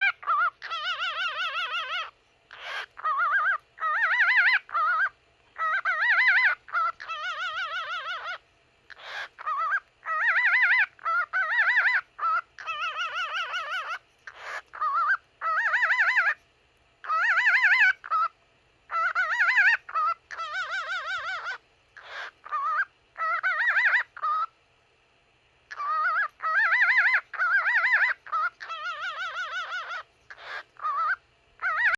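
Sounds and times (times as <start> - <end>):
cockatiel whistling: 0.0 - 16.4, 17.0 - 18.3, 18.9 - 24.5, 25.7 - 31.9.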